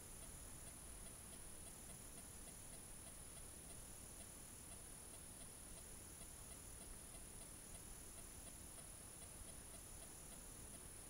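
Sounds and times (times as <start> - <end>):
faint high whine: 0.0 - 11.0
recording hiss: 0.0 - 11.0
soft even ticks: 0.0 - 11.0.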